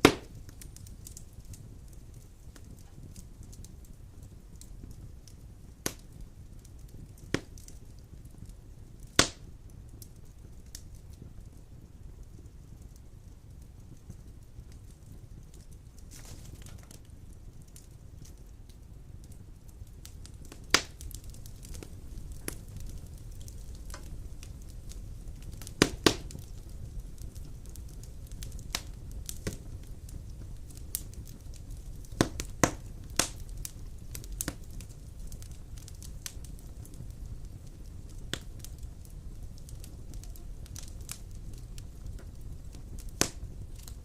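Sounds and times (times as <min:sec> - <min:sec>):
fire crackles and pops: 0:00.0 - 0:44.0
fire hissing and rumbling: 0:00.0 - 0:44.0.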